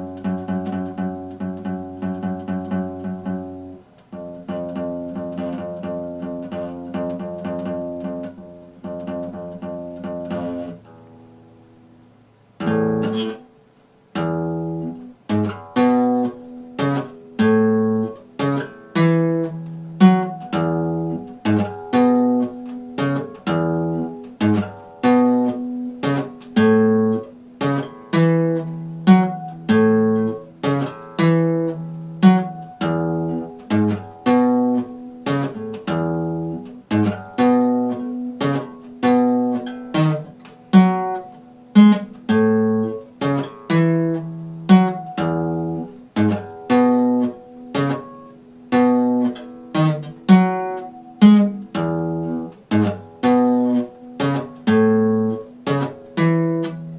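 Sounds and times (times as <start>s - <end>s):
acoustic guitar strummed: 0.0s - 56.9s.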